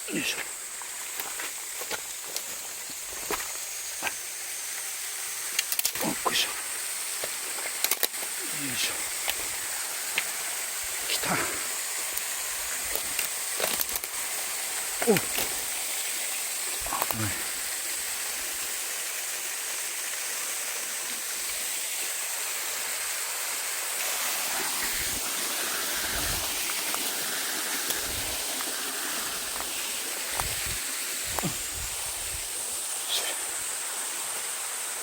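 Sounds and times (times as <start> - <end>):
waterfall rushing: 6.0 - 35.0.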